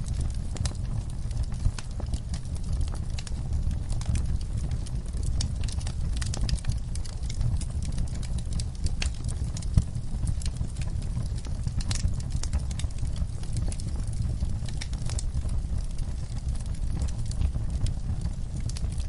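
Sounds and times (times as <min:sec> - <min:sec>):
fire crackling and popping: 0:00.0 - 0:19.0
fireplace fire rumbling: 0:00.0 - 0:19.0.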